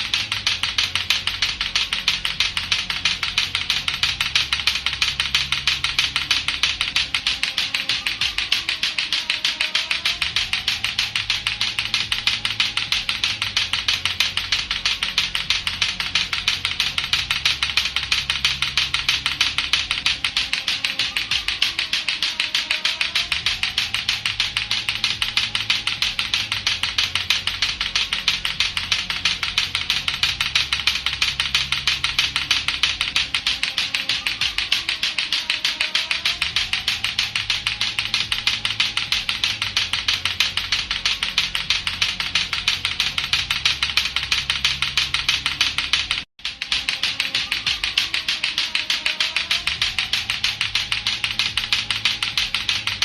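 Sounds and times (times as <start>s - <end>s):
clacker balls clacking: 0.0s - 53.0s
faint looping background tone: 0.0s - 53.0s.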